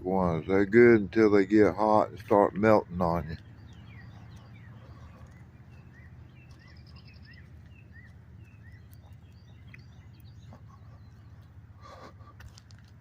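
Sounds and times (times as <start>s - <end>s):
steady low hum: 0.0s - 13.0s
bird chirping: 0.1s - 12.0s.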